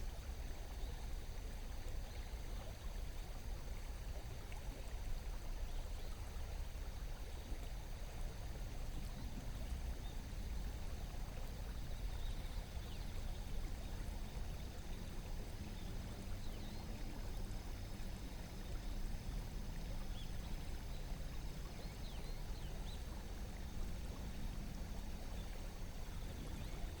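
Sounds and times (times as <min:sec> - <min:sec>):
river flowing over stones: 0:00.1 - 0:27.0.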